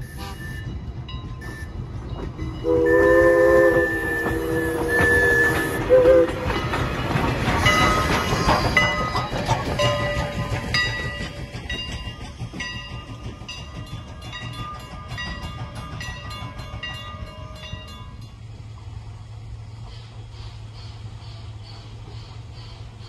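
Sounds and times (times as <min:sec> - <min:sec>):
crossing warning bell ringing: 0:00.0 - 0:18.6
train rumbling over crossing: 0:00.0 - 0:23.0.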